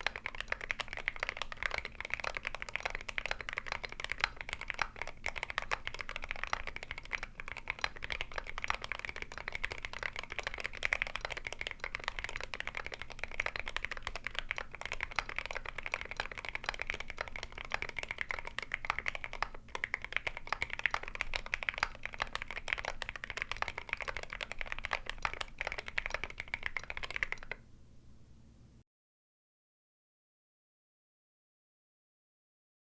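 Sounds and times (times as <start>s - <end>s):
mechanical keyboard typing: 0.0s - 27.6s.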